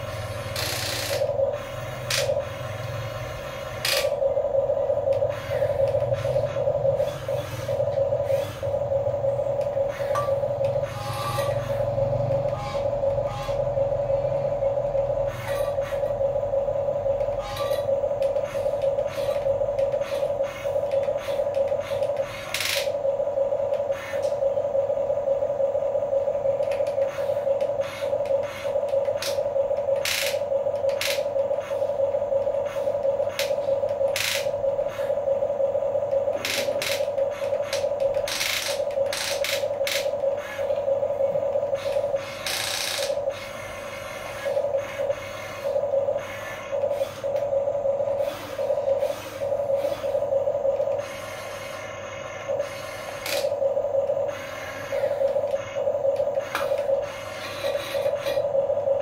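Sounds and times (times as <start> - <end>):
electric gear motors whining: 0.0 - 25.3, 26.0 - 59.0.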